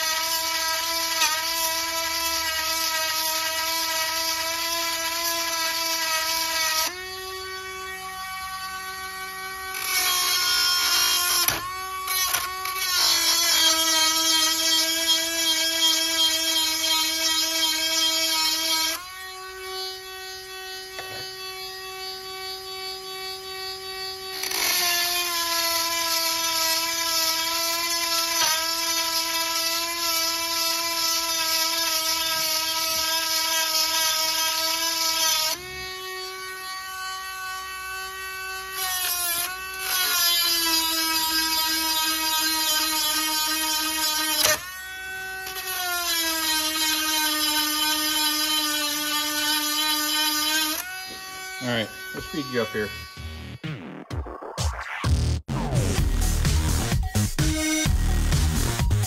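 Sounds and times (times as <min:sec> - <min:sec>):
rotary grinder whining: 0:00.0 - 0:53.6.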